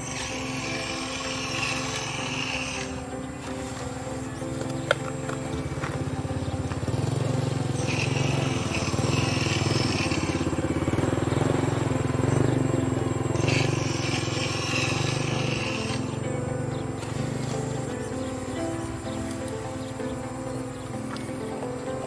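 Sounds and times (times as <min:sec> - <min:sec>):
high hiss: 0:00.0 - 0:21.9
hydraulic pump drone: 0:00.0 - 0:22.0.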